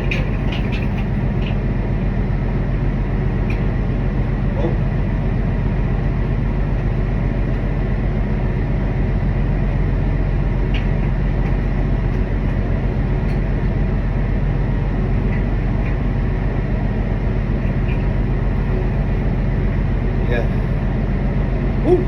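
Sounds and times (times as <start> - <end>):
loud low engine drone: 0.0 - 22.0.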